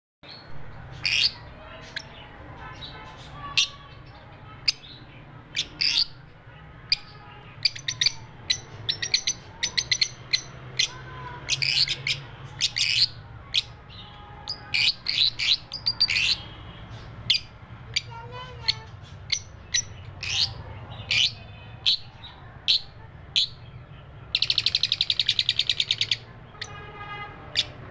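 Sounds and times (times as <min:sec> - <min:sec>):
lovebirds chirping: 0:00.2 - 0:27.9.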